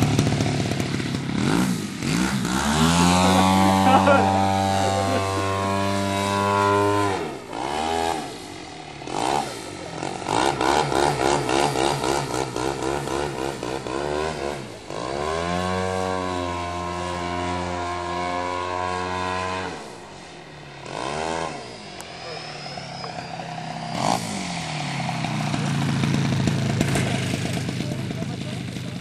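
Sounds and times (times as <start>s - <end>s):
model airplane engine: 0.0s - 29.0s.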